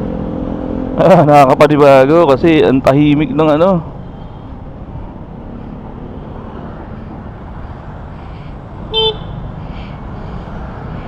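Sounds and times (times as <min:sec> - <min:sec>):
road and wind rumble: 0:00.0 - 0:11.0.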